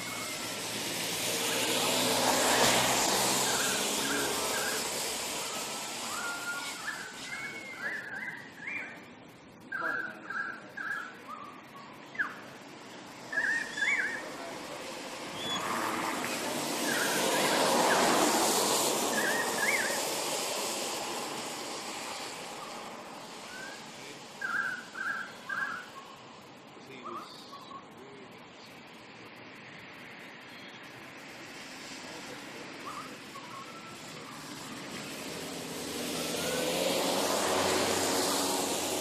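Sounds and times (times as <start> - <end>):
broad rushing noise: 0.0 - 9.8, 10.6 - 27.2, 27.9 - 39.0
birds chirping: 0.0 - 38.8.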